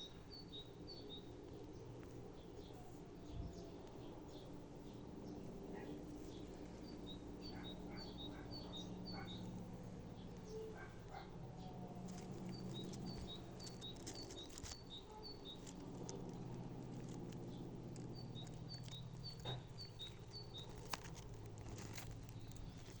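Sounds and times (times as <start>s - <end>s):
songbird singing: 0.0s - 23.0s
steady low hum: 0.0s - 23.0s.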